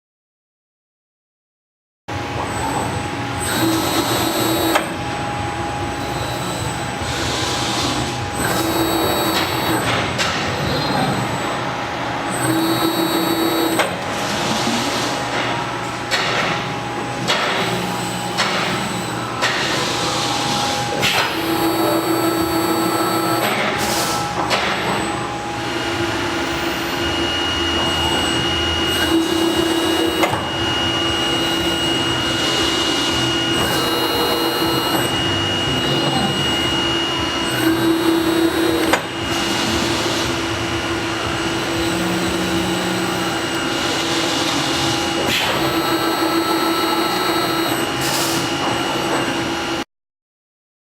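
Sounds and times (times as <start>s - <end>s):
steady mechanical noise: 2.1s - 49.8s
servo drives whining: 2.4s - 16.0s, 17.2s - 49.5s.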